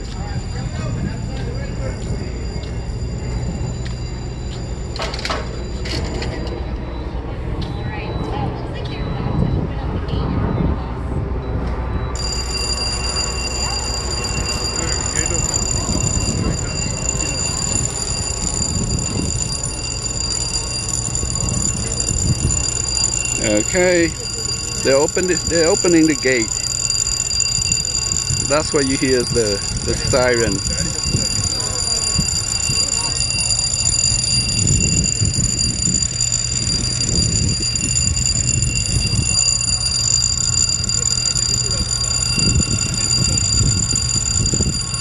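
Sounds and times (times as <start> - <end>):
high-pitched warning alarm: 0.0 - 9.9, 11.4 - 45.0.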